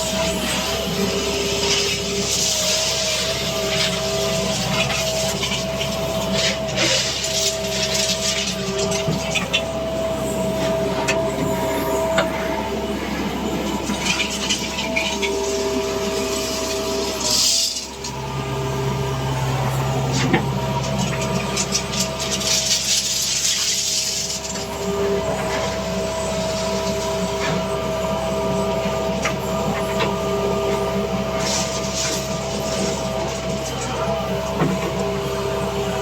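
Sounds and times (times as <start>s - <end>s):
diesel engine whining: 0.0s - 36.0s.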